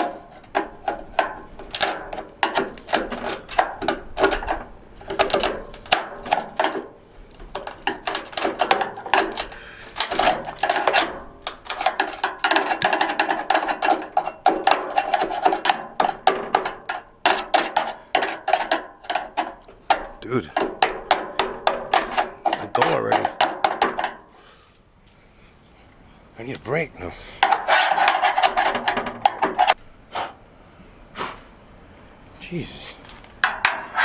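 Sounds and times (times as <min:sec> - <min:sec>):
hand tools clicking and knocking: 0:00.0 - 0:24.4, 0:27.4 - 0:29.8, 0:33.1 - 0:34.0.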